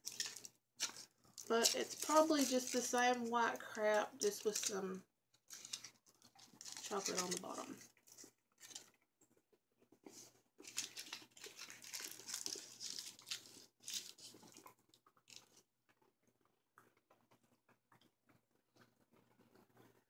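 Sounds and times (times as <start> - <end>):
crunching and chewing candy: 0.0 - 4.8, 5.4 - 20.0.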